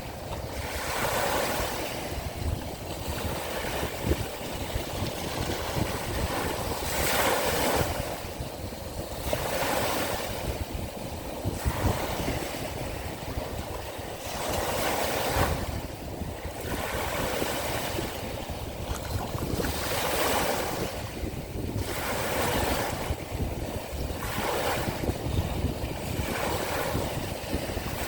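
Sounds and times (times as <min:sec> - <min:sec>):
sea waves breaking: 0:00.0 - 0:28.0
wind rumble on microphone: 0:00.0 - 0:28.0.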